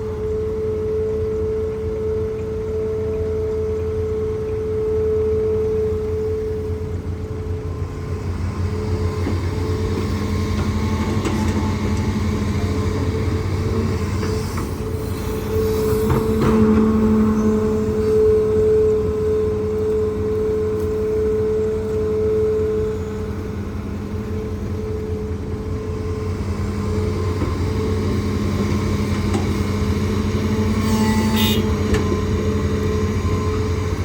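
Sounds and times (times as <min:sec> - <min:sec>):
diesel engine hum: 0:00.0 - 0:34.0
high whine: 0:00.0 - 0:34.0.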